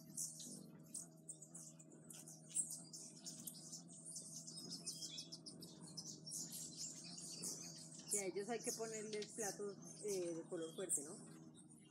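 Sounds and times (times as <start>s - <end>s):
faint low hum: 0.0s - 11.9s
hummingbirds chipping and twittering: 0.0s - 11.9s.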